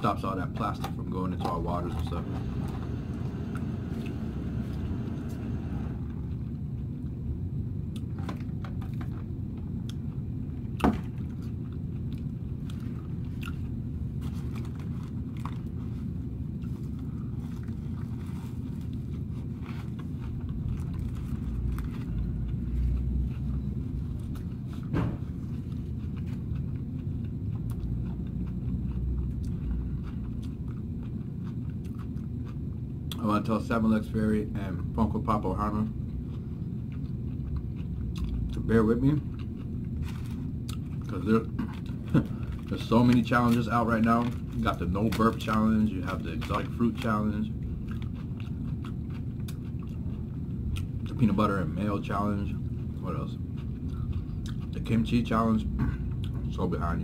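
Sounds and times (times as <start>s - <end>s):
steady low rumble: 0.0s - 57.0s
person chewing crispy food: 7.8s - 33.5s, 35.6s - 56.6s.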